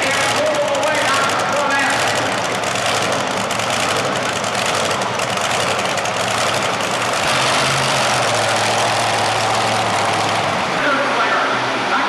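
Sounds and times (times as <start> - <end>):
tractor engine idling loudly: 0.0 - 11.5
low steady engine note: 0.0 - 12.0.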